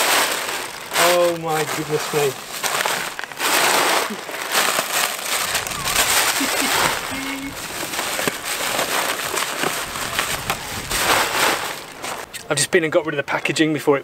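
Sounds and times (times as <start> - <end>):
bubble wrap rustling and crinkling: 0.0 - 12.3.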